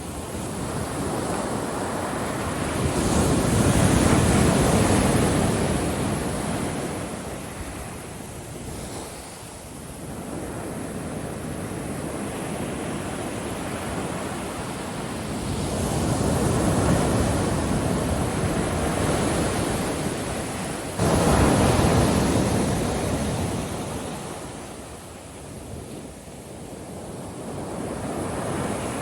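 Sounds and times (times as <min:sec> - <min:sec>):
ocean surf washing on beach: 0:00.0 - 0:29.0.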